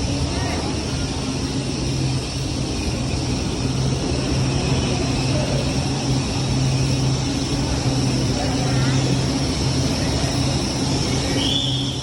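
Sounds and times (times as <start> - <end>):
faint high whine: 0.0 - 12.0
train running with rumble: 0.0 - 12.0.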